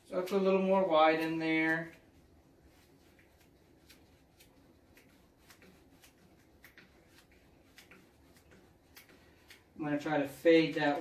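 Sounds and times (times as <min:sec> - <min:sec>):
paintbrush dabbing on palette: 0:00.2 - 0:11.0.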